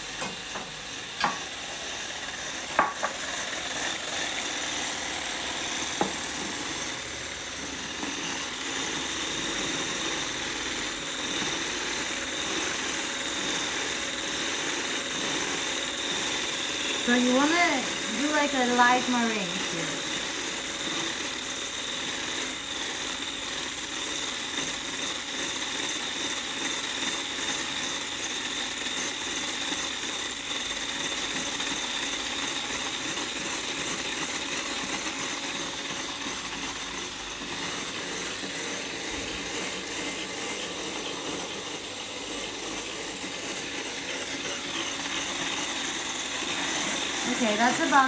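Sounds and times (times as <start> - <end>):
electric whisk whining: 0.0 - 48.0.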